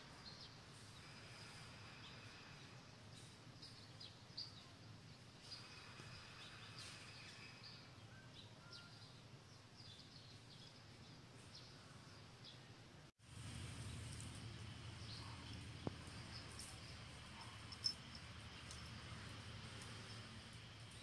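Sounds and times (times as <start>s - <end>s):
low steady background hum: 0.0s - 21.0s
faint bird chirps: 0.1s - 12.6s, 14.6s - 21.0s.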